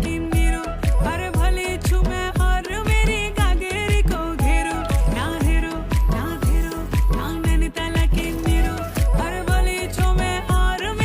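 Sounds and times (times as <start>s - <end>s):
background music with deep bass: 0.0s - 11.0s.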